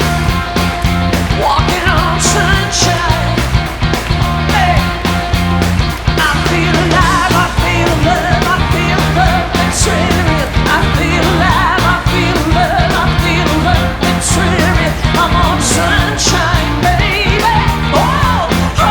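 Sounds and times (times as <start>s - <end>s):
rock music with singer: 0.0s - 18.9s.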